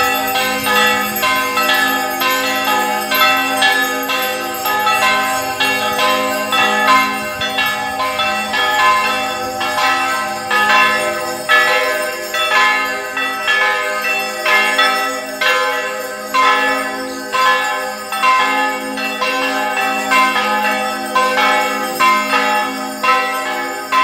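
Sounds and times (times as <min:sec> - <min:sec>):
church bells ringing in a peal: 0:00.0 - 0:24.0.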